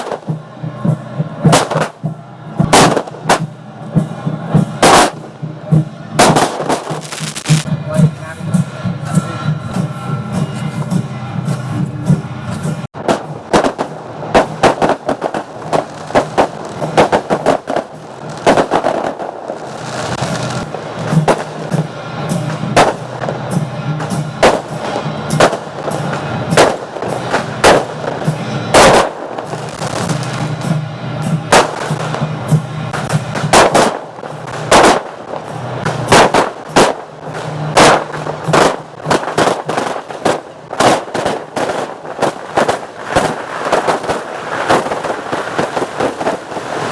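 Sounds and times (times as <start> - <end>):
fireworks bangs: 0.0 - 7.7, 13.0 - 46.9
music playing: 0.1 - 45.1.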